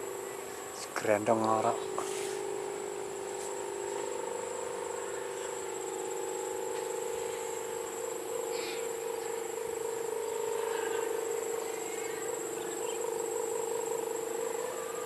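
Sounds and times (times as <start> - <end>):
kite hummer droning: 0.0 - 15.0.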